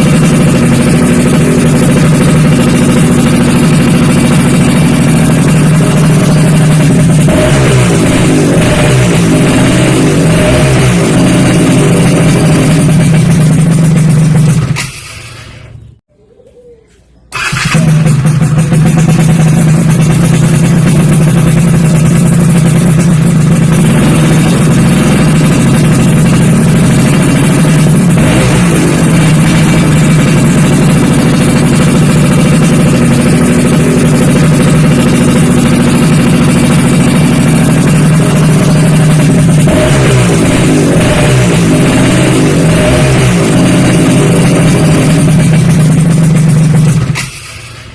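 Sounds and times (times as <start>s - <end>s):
two-stroke engine running: 0.0s - 15.0s, 17.4s - 47.4s.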